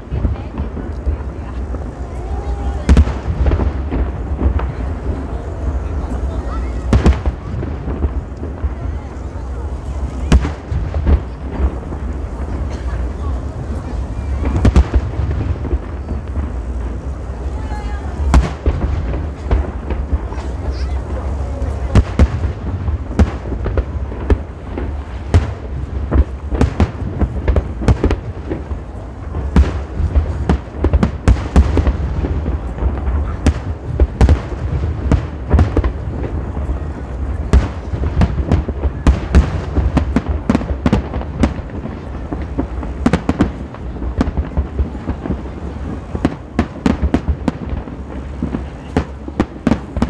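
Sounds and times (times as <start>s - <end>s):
deep rumble of booms: 0.0s - 50.0s
firework bursts and bangs: 0.0s - 50.0s.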